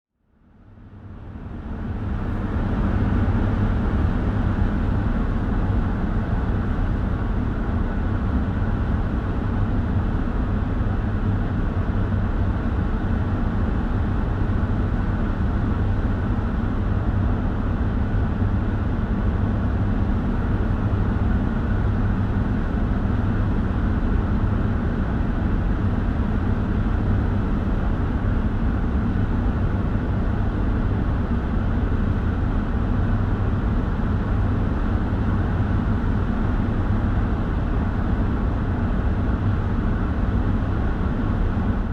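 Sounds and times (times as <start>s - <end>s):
engine drone inside van: 0.2s - 41.9s.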